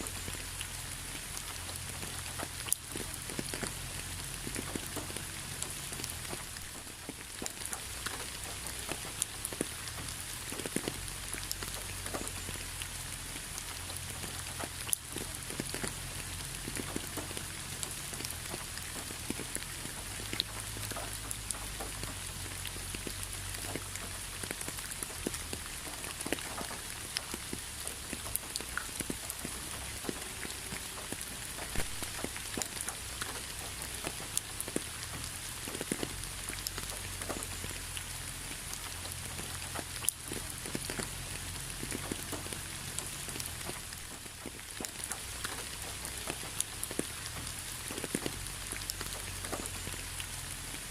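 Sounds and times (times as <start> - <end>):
rain drops tapping on a surface: 0.0 - 50.9
steady rain hiss: 0.0 - 50.9.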